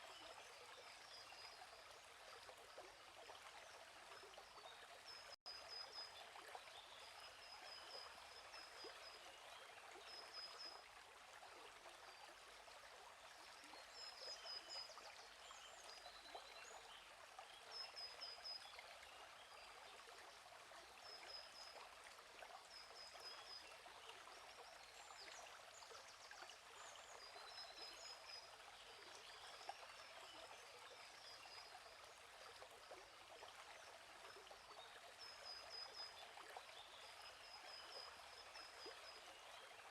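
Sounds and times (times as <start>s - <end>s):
gently flowing stream: 0.0s - 39.9s.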